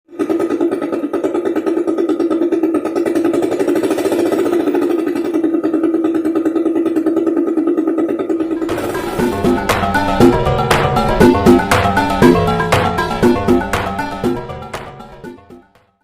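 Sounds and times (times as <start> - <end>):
motorcycle engine running: 0.1 - 16.0.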